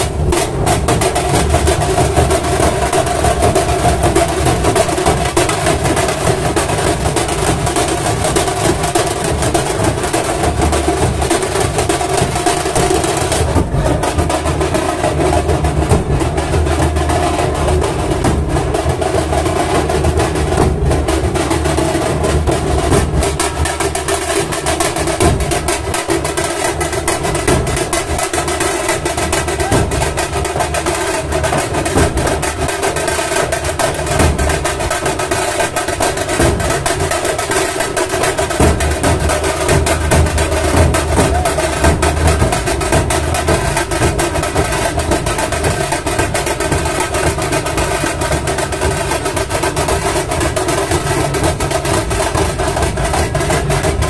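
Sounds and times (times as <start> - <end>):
barrel drums beating dense rhythm: 0.0 - 54.0.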